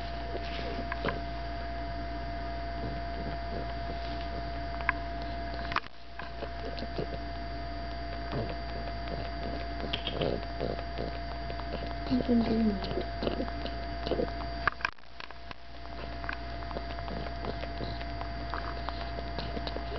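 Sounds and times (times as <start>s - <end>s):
low hum: 0.0s - 19.9s
dog suckling on plush toy: 2.9s - 7.3s, 8.1s - 19.9s.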